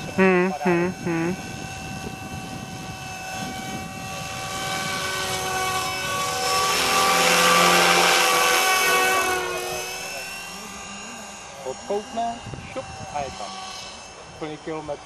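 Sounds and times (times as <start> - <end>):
model helicopter motor whine: 0.0 - 15.0.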